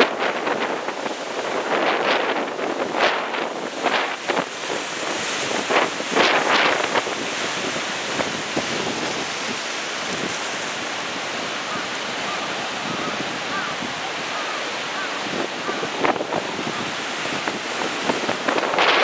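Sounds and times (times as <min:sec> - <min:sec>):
storm surf breaking onshore: 0:00.0 - 0:19.0
wind buffeting the microphone: 0:00.0 - 0:19.0.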